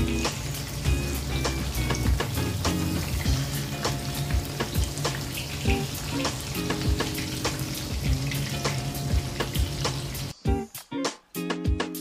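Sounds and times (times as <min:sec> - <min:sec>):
tofu sizzling in hot oil: 0:00.0 - 0:10.4
background music with low notes: 0:00.0 - 0:12.0.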